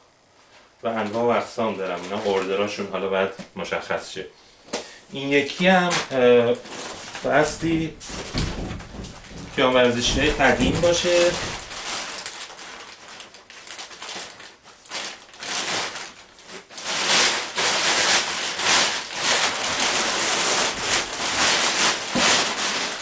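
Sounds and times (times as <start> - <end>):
plastic sheeting rustling: 0.3 - 4.0, 5.2 - 23.0.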